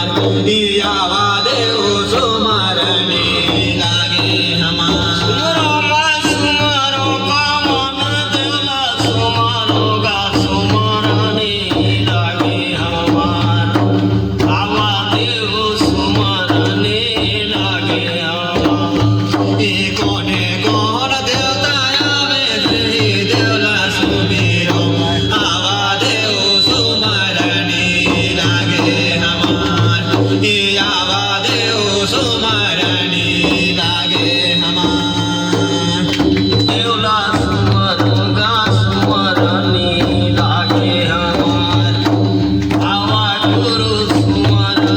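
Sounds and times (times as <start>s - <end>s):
steady drum beat: 0.0s - 44.9s.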